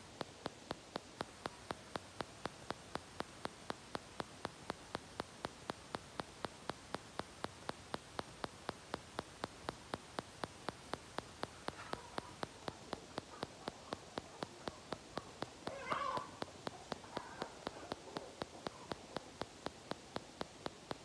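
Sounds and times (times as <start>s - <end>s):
faint steady hiss: 0.0s - 21.0s
sharp ticking: 0.0s - 21.0s.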